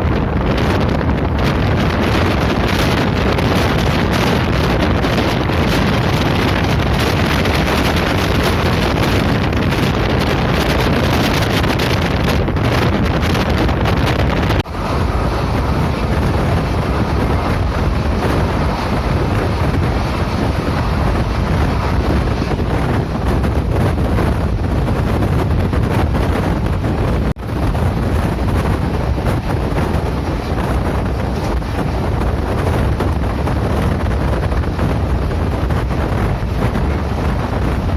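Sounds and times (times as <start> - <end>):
train running noise: 0.0 - 37.9
wind rushing across microphone: 0.0 - 37.9.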